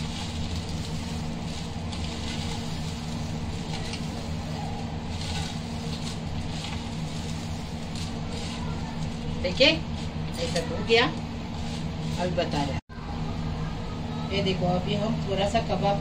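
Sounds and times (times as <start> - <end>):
dry noodles crackling: 0.0 - 12.8
steady low hum: 0.0 - 16.0.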